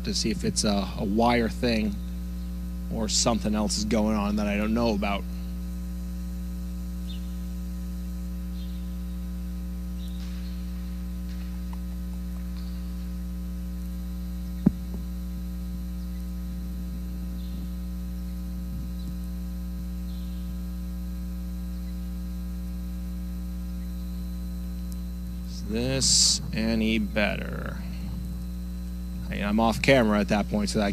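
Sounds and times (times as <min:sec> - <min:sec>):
electrical mains hum: 0:00.0 - 0:30.9.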